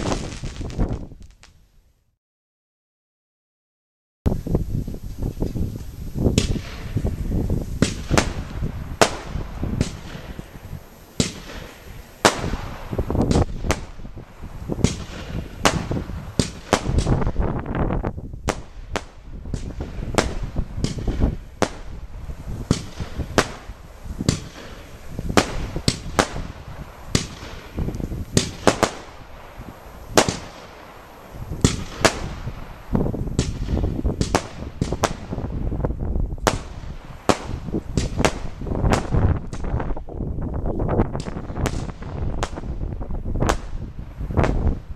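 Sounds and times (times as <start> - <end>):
fireworks bangs: 0.0 - 1.6, 5.2 - 40.2, 41.0 - 44.9.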